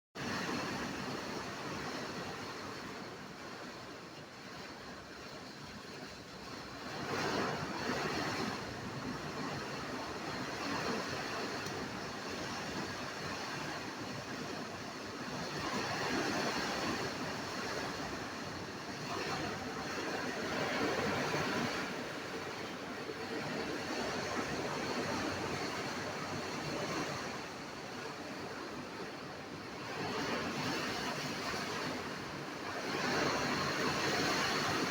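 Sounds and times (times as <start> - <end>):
heavy rain in strong wind: 6.7 - 34.9.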